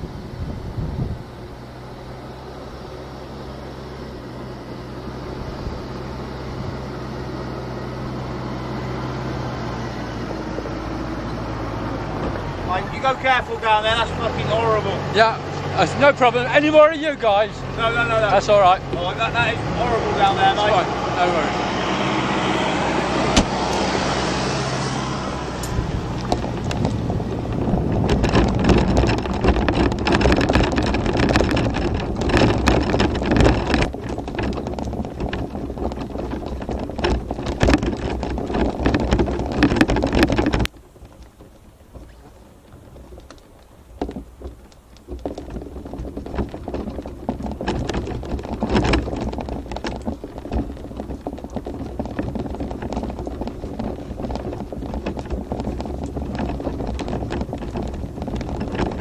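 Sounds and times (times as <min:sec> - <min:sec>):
scooter wheels rattling on stony track: 0:00.0 - 0:59.0.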